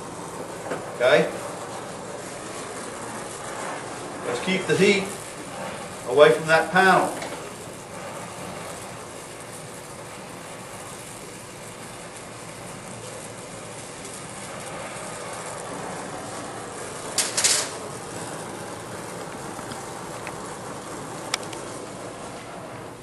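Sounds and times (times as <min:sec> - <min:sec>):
rushing burst of flame: 0:00.0 - 0:23.0
torch flame hissing: 0:00.0 - 0:23.0.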